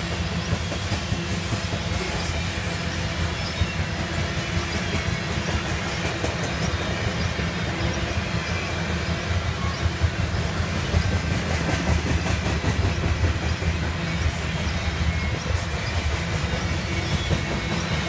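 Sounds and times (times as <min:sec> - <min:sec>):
steel wheels rumbling on rail: 0:00.0 - 0:18.0.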